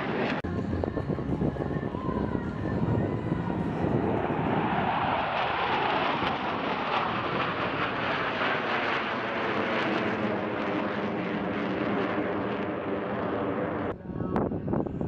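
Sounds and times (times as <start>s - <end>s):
jets flying overhead: 0.0s - 15.0s.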